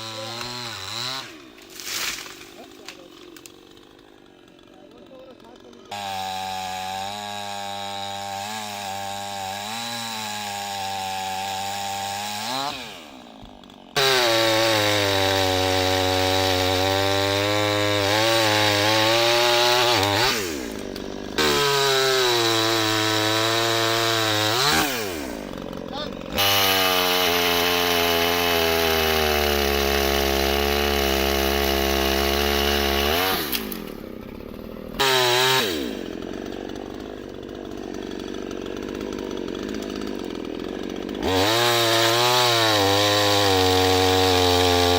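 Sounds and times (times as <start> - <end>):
chainsaw engine running at high revs: 0.0 - 44.9.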